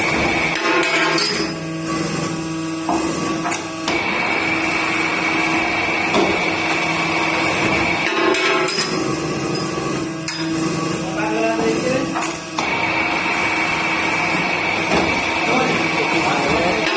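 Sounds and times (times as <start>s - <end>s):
drilling machine hum: 0.0s - 16.9s
high machine whine: 0.0s - 16.9s.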